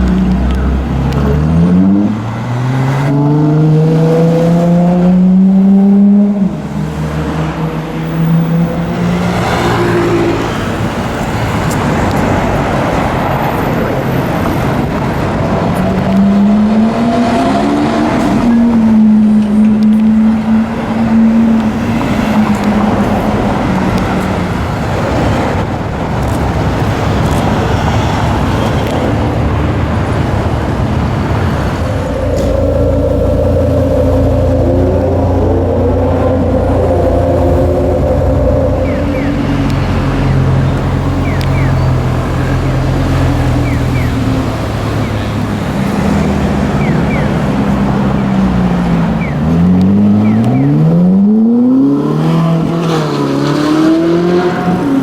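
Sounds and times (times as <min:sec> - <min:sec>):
car engine accelerating hard: 0:00.0 - 0:55.0
traffic noise: 0:00.0 - 0:55.0.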